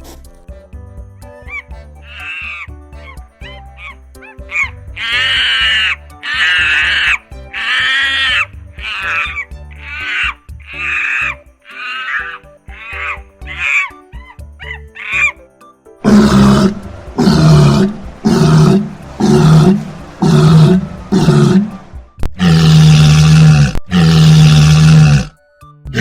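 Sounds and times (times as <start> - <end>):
large animal calling: 1.5 - 15.4, 16.1 - 25.3.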